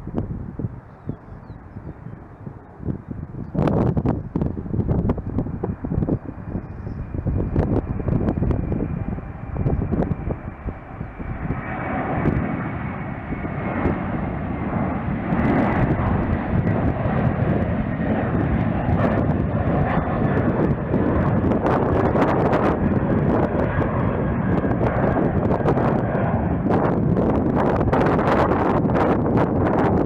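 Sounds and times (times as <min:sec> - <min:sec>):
jet airliner engines roaring: 0:00.0 - 0:30.0
wind buffeting microphone: 0:00.0 - 0:30.0.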